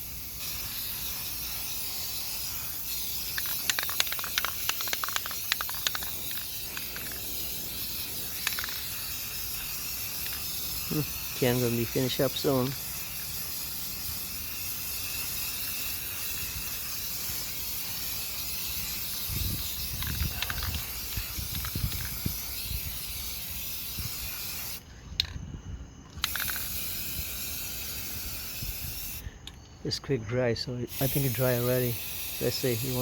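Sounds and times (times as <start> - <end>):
spray can hissing: 0.0 - 24.8, 26.2 - 29.2, 30.9 - 33.0.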